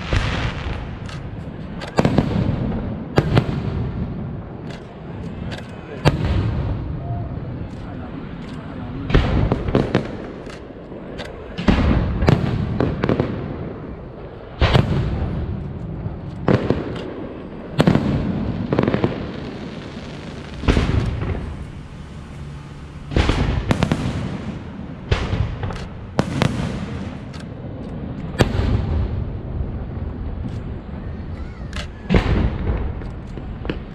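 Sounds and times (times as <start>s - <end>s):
fireworks bursting with rumble: 0.0s - 33.9s.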